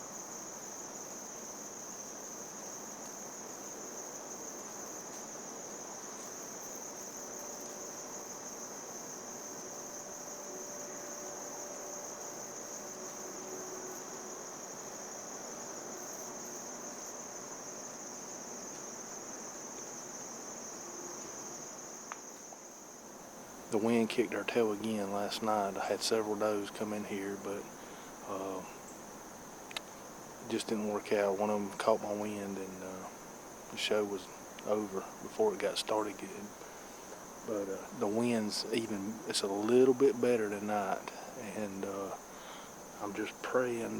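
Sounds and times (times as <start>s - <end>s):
background hiss: 0.0s - 43.9s
crickets trilling: 0.0s - 43.9s.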